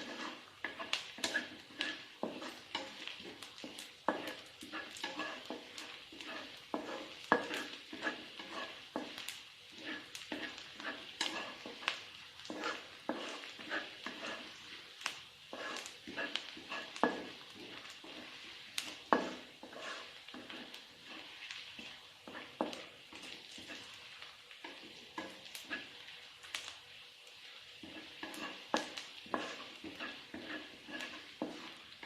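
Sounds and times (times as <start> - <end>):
spatula scraping a pan: 0.0 - 26.8, 27.4 - 32.0
food sizzling in hot oil: 0.0 - 32.0.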